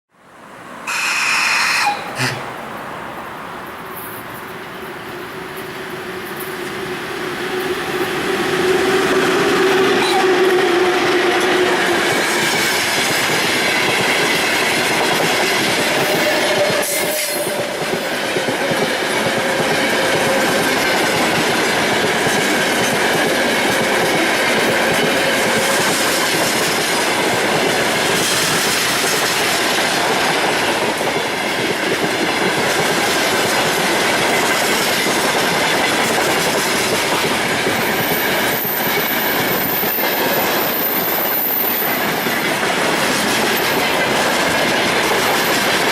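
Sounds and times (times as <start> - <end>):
freight train rolling past: 0.4 - 45.9
wheels squealing on rail: 0.7 - 31.2, 32.5 - 45.9
wheels clacking over rail joints: 0.9 - 45.9.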